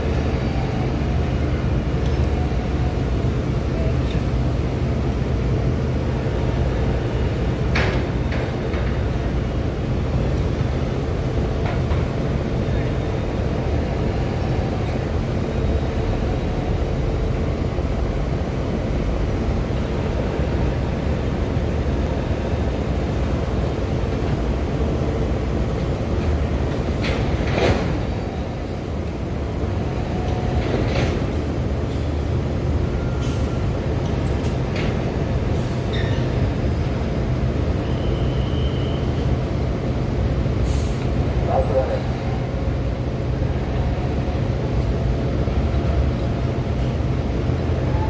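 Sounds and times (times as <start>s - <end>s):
ship engines rumbling: 0.0s - 48.0s.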